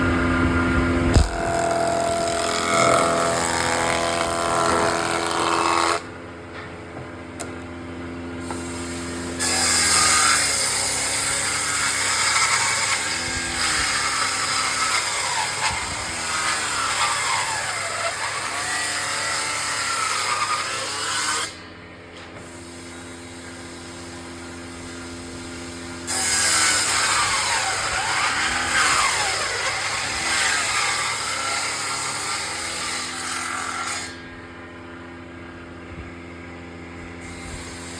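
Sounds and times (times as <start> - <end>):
table saw cutting wood: 0.0 - 6.2, 8.4 - 21.7, 22.4 - 34.6, 37.2 - 37.9.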